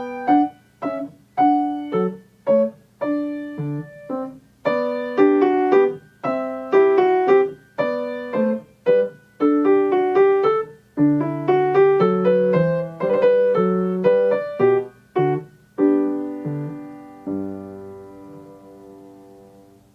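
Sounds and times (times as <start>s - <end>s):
solo piano music: 0.0s - 19.9s.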